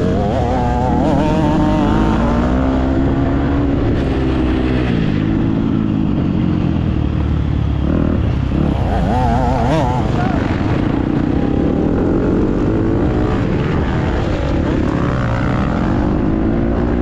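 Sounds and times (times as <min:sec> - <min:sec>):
dirt bike engine revving: 0:00.0 - 0:06.8, 0:07.8 - 0:17.0.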